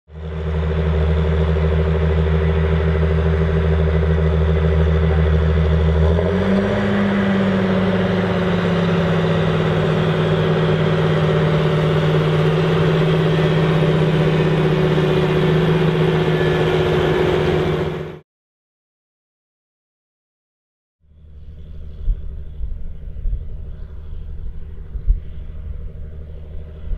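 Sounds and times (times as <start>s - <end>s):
tractor diesel engine running: 0.1s - 18.2s, 21.0s - 26.9s.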